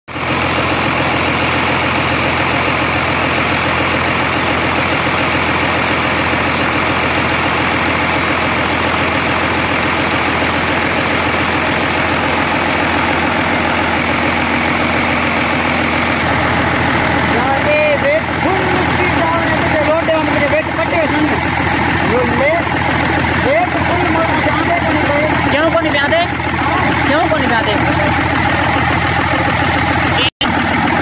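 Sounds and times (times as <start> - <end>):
diesel engine running under load: 0.1 - 31.0.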